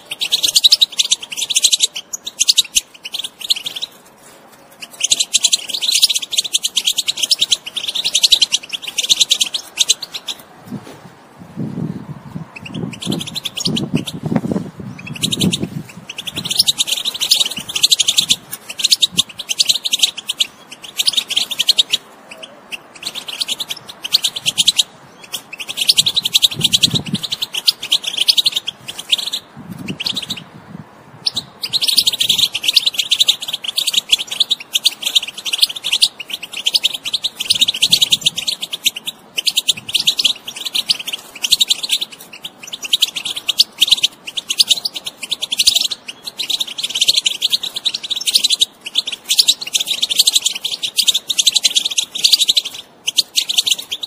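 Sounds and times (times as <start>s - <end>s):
goldfinch twittering song: 0.0s - 4.1s, 4.8s - 10.4s, 12.5s - 30.5s, 31.2s - 54.0s.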